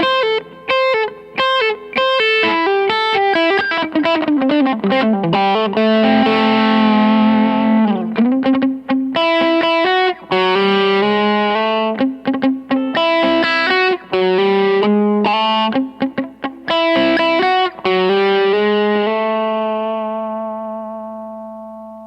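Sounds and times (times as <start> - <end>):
electric guitar lead licks: 0.0 - 22.0.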